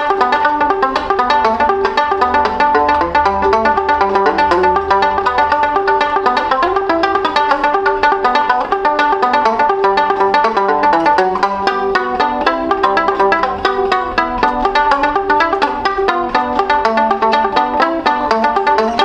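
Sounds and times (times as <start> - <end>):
muted banjo fingerpicked: 0.0 - 19.0.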